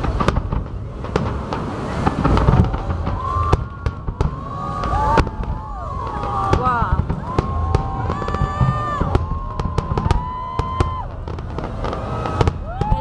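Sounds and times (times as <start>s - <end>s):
fireworks bangs and crackling: 0.0s - 13.0s
fireworks whistles: 0.0s - 13.0s
low rumble: 0.0s - 13.0s.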